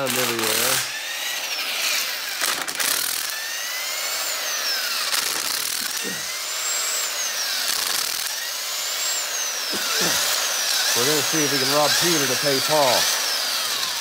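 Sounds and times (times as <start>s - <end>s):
impact wrench motor whirring: 0.0s - 14.0s.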